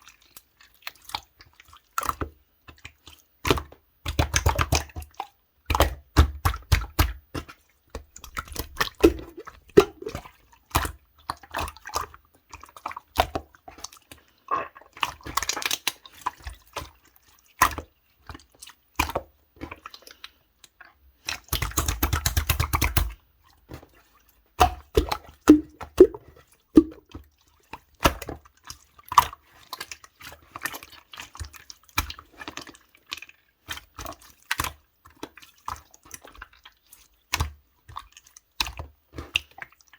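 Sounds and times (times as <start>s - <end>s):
slime squishing with wet pops: 0.4s - 39.9s.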